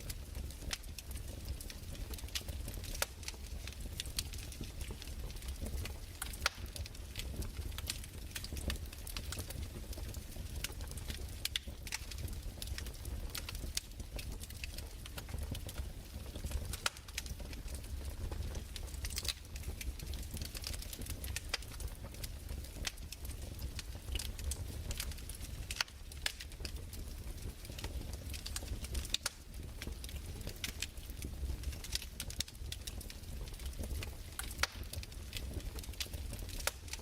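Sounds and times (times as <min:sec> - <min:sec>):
fireplace crackling: 0:00.0 - 0:37.0.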